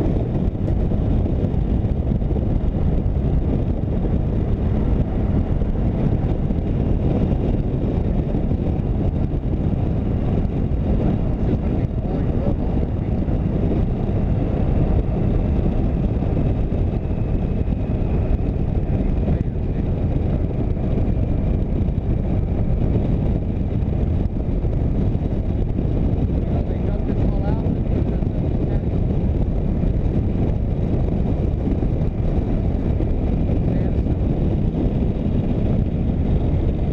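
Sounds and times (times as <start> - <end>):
road noise: 0.0 - 36.9
wind over microphone: 0.0 - 36.9.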